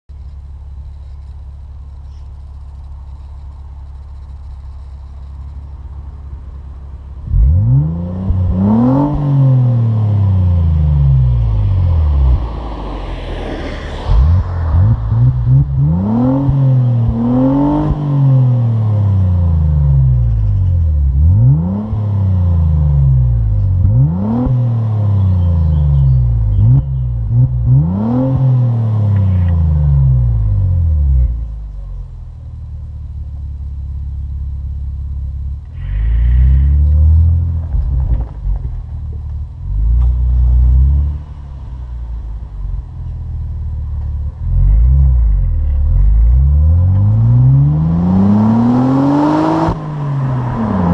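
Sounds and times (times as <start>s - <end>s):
car engine idling: 0.1s - 24.2s, 29.1s - 48.2s
car engine revving: 0.2s - 31.5s, 35.3s - 50.9s.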